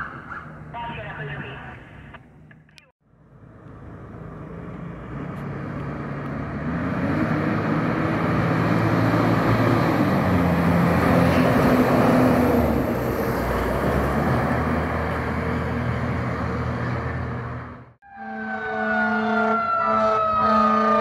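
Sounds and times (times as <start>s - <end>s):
road noise: 0.0s - 21.0s
fire engine driving past: 3.0s - 21.0s.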